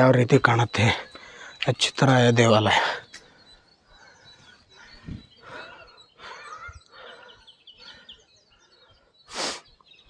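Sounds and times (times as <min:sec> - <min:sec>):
fainter bird calls: 0:00.0 - 0:10.0
small birds chirping: 0:00.0 - 0:10.0.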